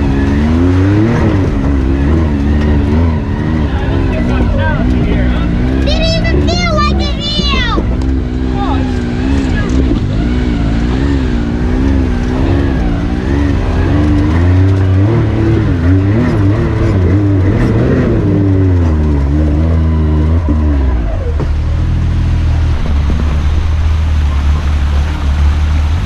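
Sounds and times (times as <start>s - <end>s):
utv engine revving: 0.0s - 26.0s.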